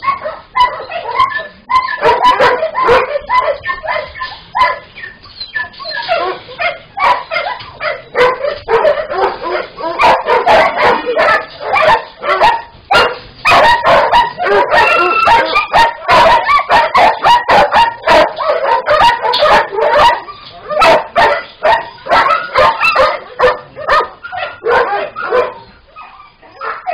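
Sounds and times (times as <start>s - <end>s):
dogs barking and yelping: 0.0s - 26.9s.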